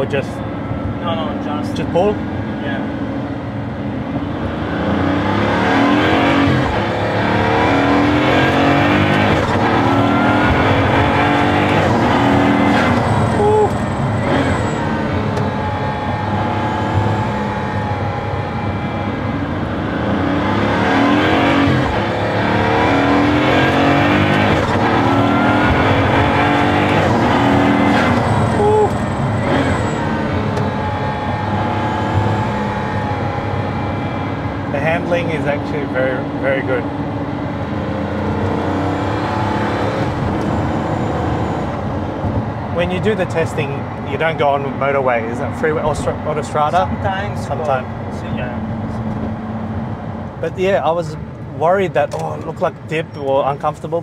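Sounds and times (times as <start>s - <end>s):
car engine accelerating through gears: 0.6s - 52.9s.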